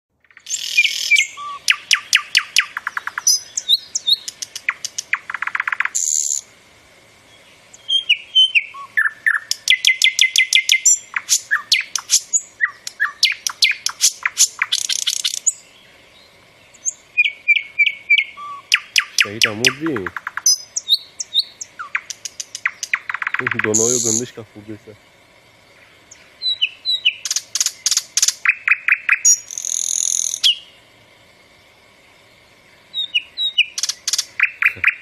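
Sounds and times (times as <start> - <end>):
bird chirping rapidly: 0.2 - 6.5, 7.2 - 24.9, 25.8 - 30.8, 32.8 - 35.0
short hissy bursts: 0.5 - 17.2, 18.6 - 28.5, 29.2 - 35.0.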